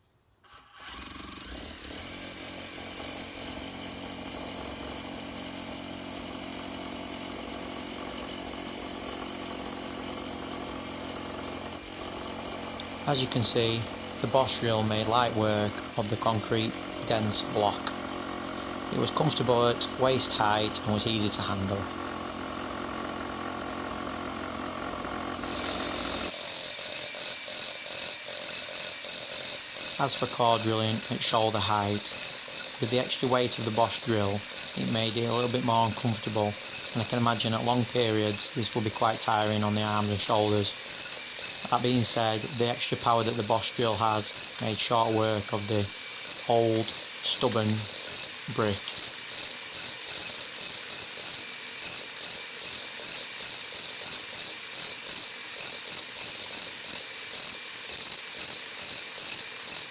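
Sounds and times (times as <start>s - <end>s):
rotary hammer drilling concrete: 0.4s - 59.9s.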